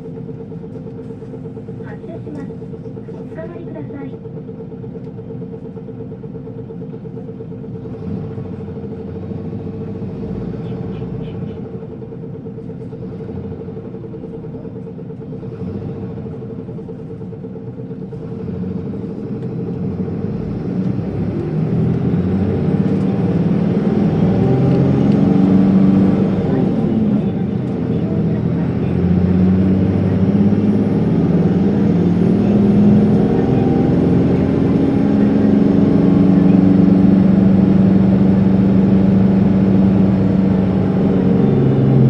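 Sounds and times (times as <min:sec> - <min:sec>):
bus diesel engine from inside: 0:00.0 - 0:42.0.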